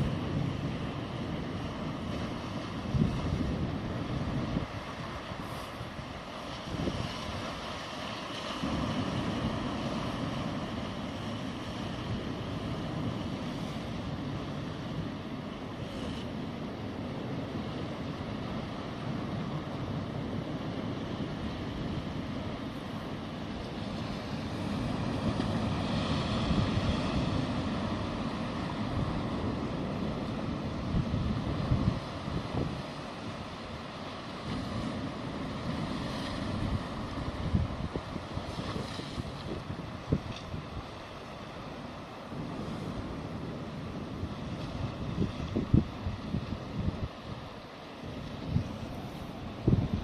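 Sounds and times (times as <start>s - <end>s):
sea waves washing on shore: 0.0s - 50.0s
wind on microphone: 0.0s - 50.0s.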